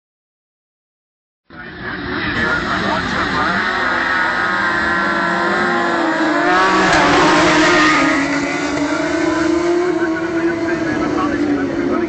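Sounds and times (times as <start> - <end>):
racing motorcycles passing at speed: 1.9 - 12.0.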